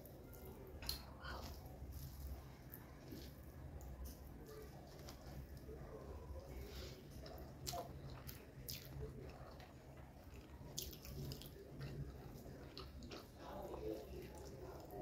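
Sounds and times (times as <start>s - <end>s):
faint low hum: 0.0s - 15.0s
person chewing food: 0.0s - 15.0s.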